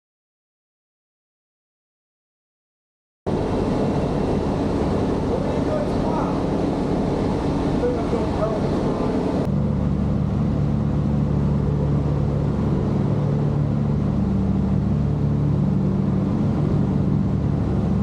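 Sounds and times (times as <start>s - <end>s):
aircraft piston engines droning: 3.3s - 18.0s.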